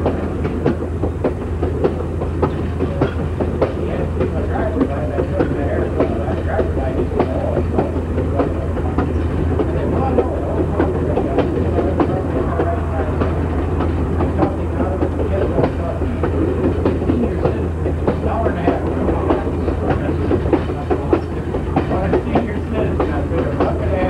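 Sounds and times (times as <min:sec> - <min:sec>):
train car rumbling on track: 0:00.0 - 0:24.0
wheels clickety-clack: 0:00.0 - 0:24.0.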